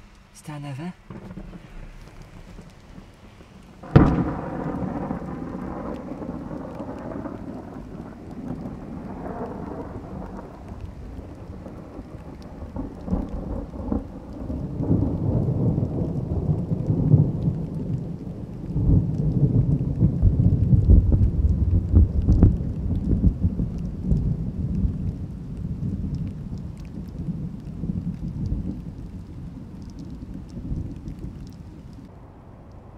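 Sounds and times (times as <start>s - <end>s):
rolling thunder: 1.0s - 32.9s.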